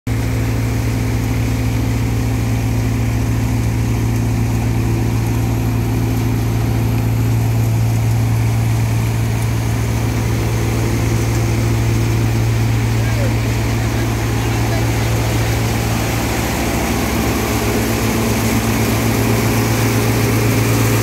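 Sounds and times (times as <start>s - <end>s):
threshing machine droning: 0.1s - 21.0s.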